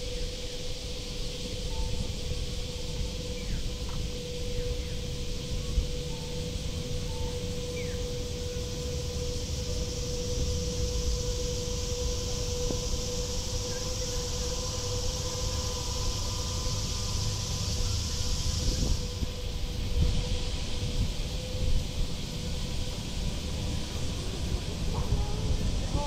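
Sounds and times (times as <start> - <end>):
faint steady hum: 0.0 - 26.0
high-pitched hiss: 0.0 - 26.0
traffic rumble: 2.2 - 26.0.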